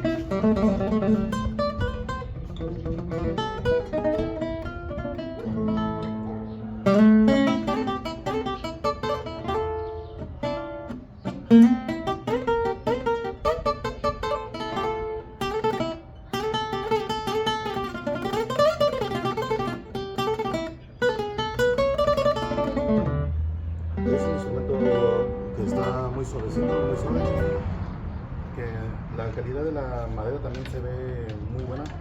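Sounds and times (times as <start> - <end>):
plucked guitar melody: 0.0 - 28.4.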